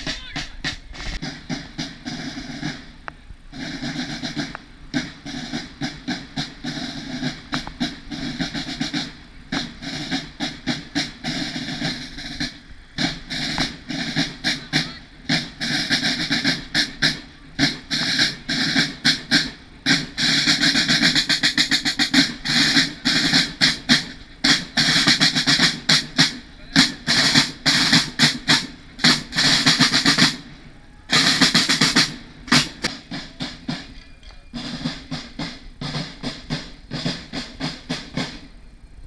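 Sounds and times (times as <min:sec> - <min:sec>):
snare drums marching cadence: 0:00.0 - 0:39.0.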